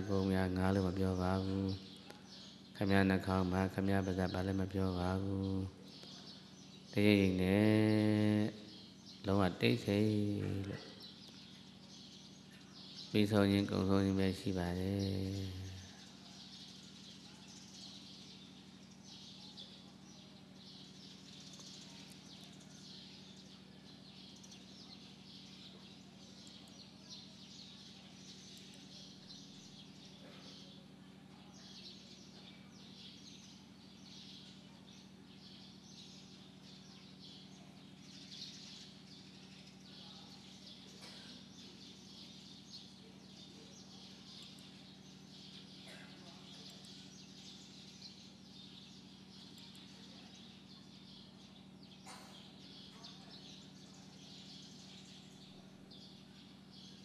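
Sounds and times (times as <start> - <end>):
birds chirping and twittering: 0.0 - 57.0
low electrical hum: 0.0 - 57.0.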